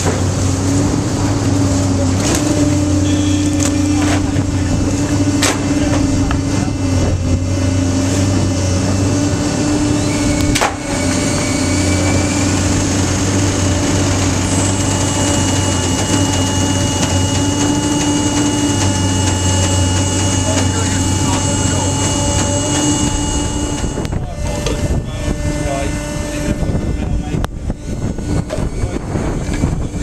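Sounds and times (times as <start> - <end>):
hydraulic power pack humming: 0.0 - 30.0.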